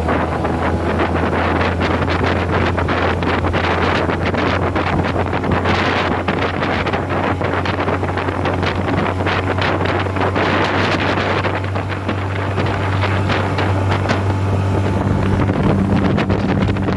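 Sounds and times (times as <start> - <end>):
outboard motor droning: 0.0 - 16.9
rushing water: 0.0 - 16.9
wind buffeting microphone: 0.0 - 16.9.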